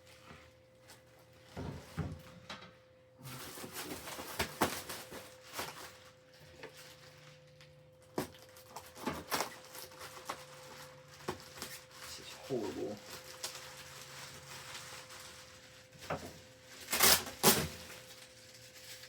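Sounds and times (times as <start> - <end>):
packaging crinkling and rustling: 3.2 - 19.0.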